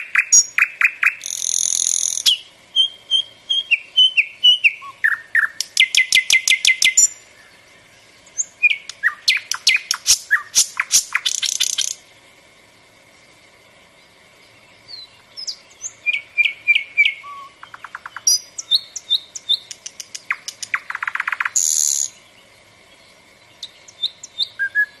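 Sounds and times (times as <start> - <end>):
songbird trilling: 0.0 - 12.0, 14.4 - 25.0.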